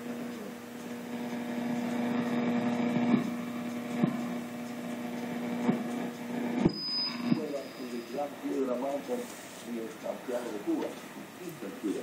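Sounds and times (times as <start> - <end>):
radio static and hiss: 0.0 - 12.0.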